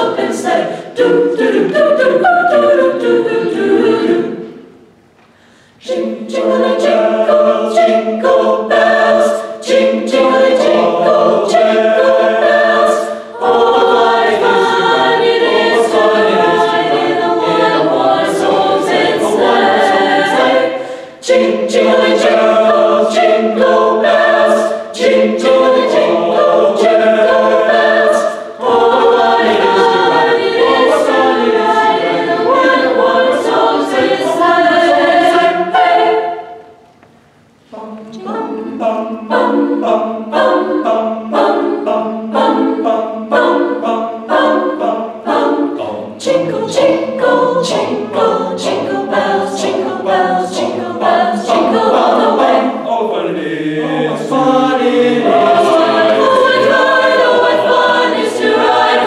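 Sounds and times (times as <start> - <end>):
choir singing a cappella: 0.0 - 4.9, 5.7 - 36.9, 37.6 - 59.0.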